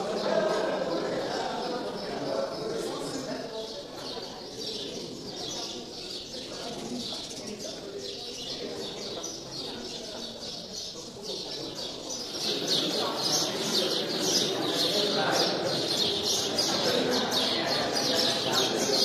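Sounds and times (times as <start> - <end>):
faint murmur of voices: 0.0 - 19.0
small birds chirping: 0.0 - 19.0.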